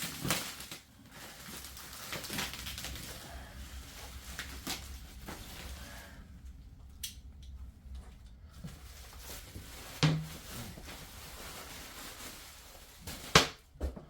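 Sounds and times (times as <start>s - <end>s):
rustling and shuffling: 0.0s - 14.0s.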